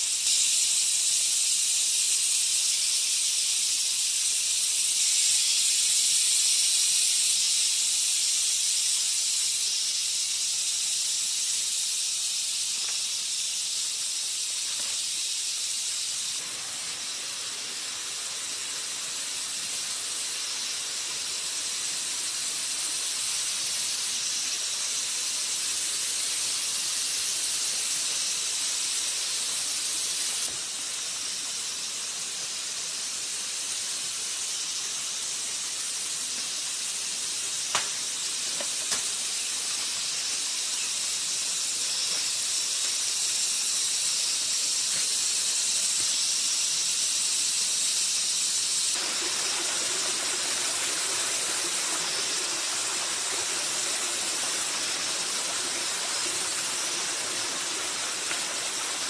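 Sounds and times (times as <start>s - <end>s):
cicada chorus: 0.0s - 59.0s.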